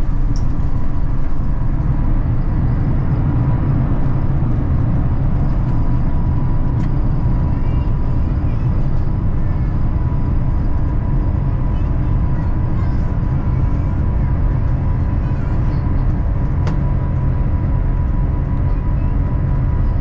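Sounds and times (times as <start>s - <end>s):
airliner cabin low rumble: 0.0s - 20.0s
thin steady whine: 0.0s - 20.0s.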